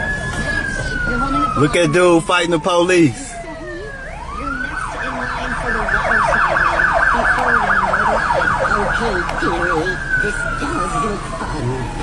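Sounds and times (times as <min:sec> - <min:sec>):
police siren yelp and wail: 0:00.0 - 0:12.0.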